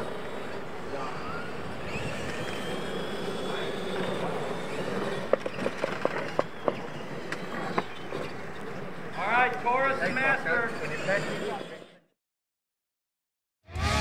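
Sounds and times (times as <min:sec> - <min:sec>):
rc truck motor whine: 0:00.0 - 0:12.1.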